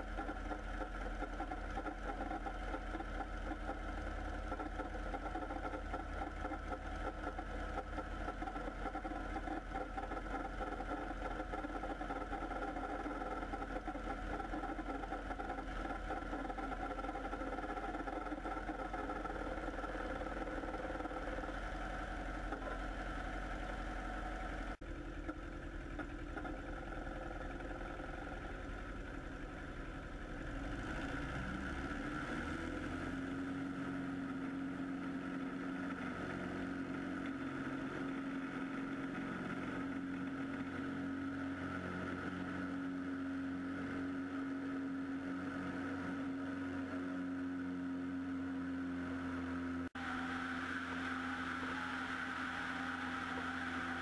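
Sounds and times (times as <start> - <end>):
propeller plane engine running: 0.0 - 54.0.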